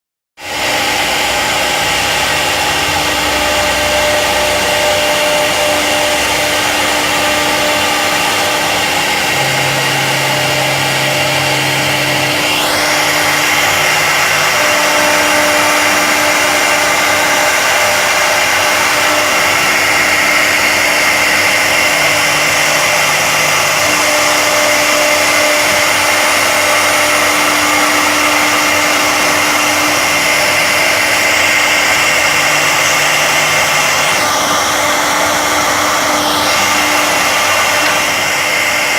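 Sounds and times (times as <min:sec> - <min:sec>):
rising whine: 0:00.4 - 0:38.9
wood router hissing: 0:00.4 - 0:38.9
low hums: 0:00.5 - 0:38.9.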